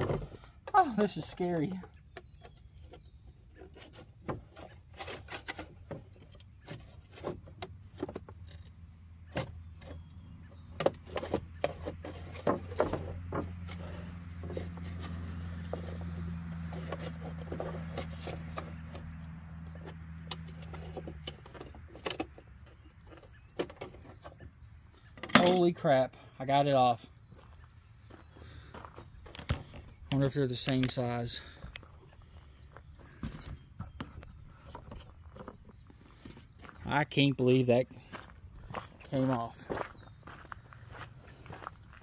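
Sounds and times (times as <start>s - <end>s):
low engine hum: 0.0s - 25.2s, 25.8s - 42.0s.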